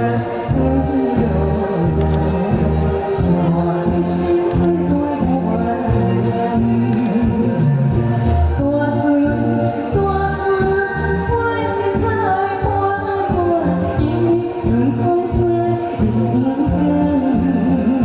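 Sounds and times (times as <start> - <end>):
backing track with steady beat: 0.0 - 18.0
person singing: 0.0 - 18.0.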